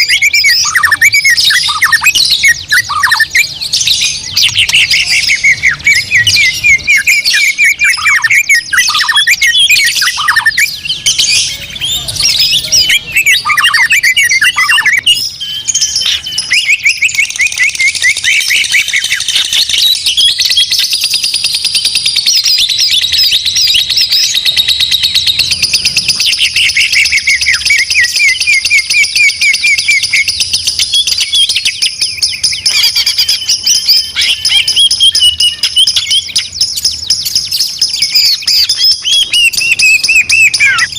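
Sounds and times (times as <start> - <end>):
songbirds singing and chattering: 0.0 - 40.9.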